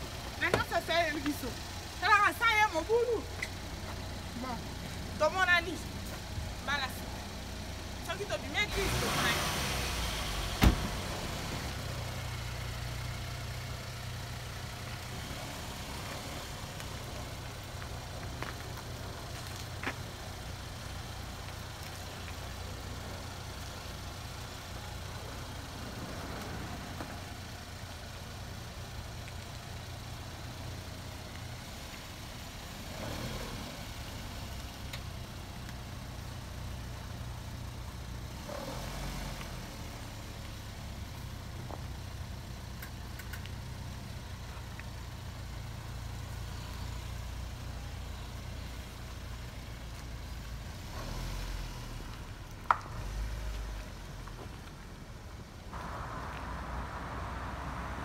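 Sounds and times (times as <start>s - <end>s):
car engine running at low speed: 0.0s - 58.0s.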